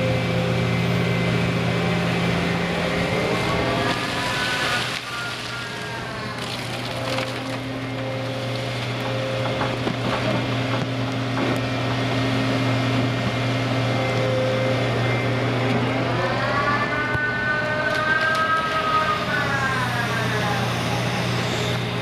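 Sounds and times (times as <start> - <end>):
crane engine droning: 0.0 - 22.0
hydraulic whine: 0.0 - 22.0.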